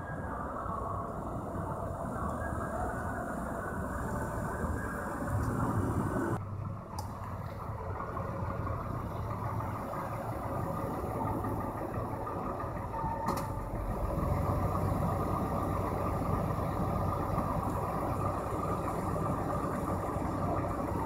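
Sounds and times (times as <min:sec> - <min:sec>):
van engine running at low revs: 0:00.0 - 0:21.0.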